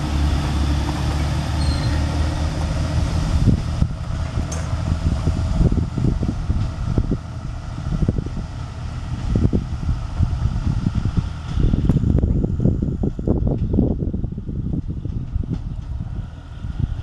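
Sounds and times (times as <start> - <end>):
diesel train engine pulling away: 0.0 - 17.0
wind buffeting microphone: 0.0 - 17.0.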